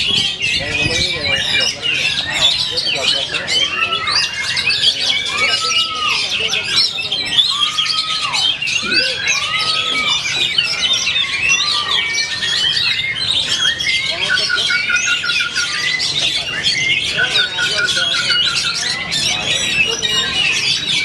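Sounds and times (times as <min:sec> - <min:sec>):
birds chirping and warbling: 0:00.0 - 0:21.0.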